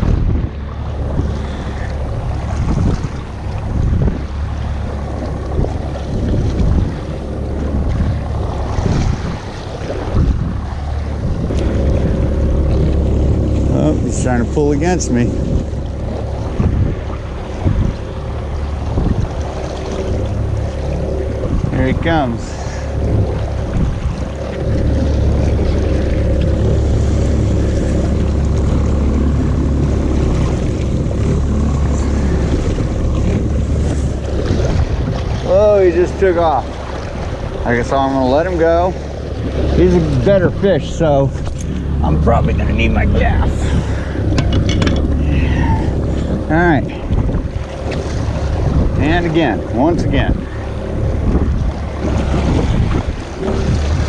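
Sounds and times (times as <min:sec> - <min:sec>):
choppy sea: 0:00.0 - 0:54.0
outboard motor running steadily: 0:00.0 - 0:54.0
wind buffeting microphone: 0:00.0 - 0:54.0.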